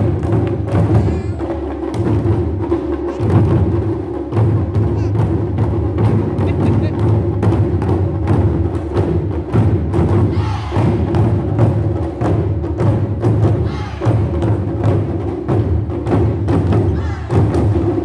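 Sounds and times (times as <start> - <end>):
taiko drums beating fast rhythm: 0.0 - 18.0.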